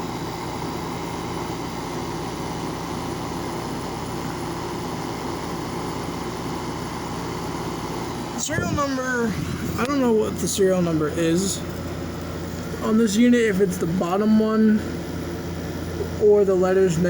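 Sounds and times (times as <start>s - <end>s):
air conditioner fan rushing: 0.0s - 17.0s
compressor low hum: 0.0s - 17.0s.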